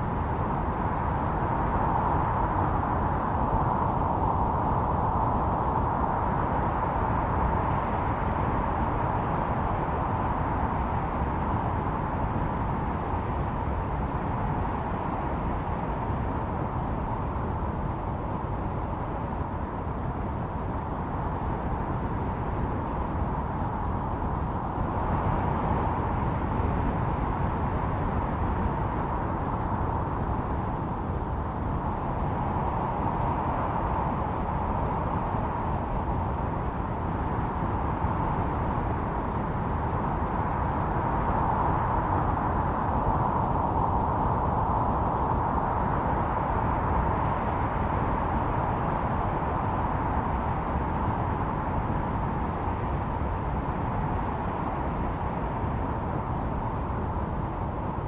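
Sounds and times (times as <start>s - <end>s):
whistling blizzard wind: 0.0s - 58.0s.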